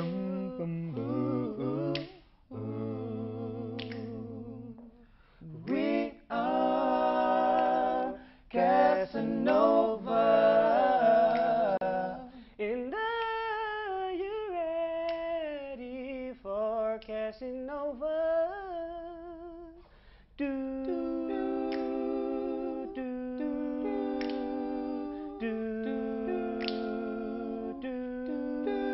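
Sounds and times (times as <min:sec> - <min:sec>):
male vocal trio singing harmony: 0:00.0 - 0:28.9.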